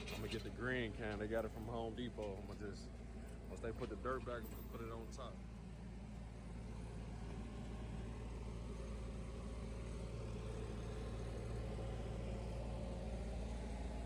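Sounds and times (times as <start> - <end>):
engine idling: 0.0 - 14.0
faint steady whine: 0.0 - 14.0.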